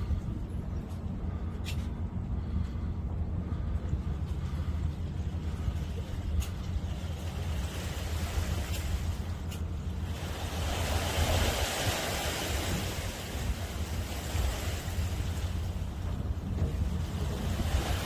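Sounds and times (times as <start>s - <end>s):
sea waves washing: 0.0s - 18.0s
wind rumble on microphone: 0.0s - 18.0s.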